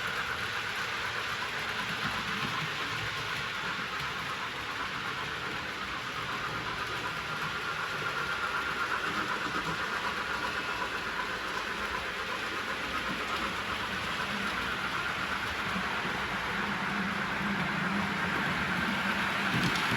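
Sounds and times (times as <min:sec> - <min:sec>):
train wheels rumbling on track: 0:00.0 - 0:19.9.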